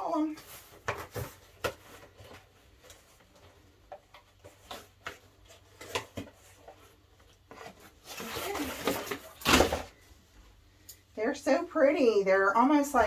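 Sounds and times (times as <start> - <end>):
soft rustling of packaging: 0.0 - 11.2.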